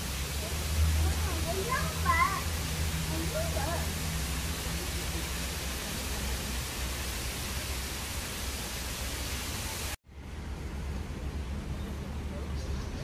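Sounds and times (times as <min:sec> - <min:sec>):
running water rushing: 0:00.0 - 0:12.6.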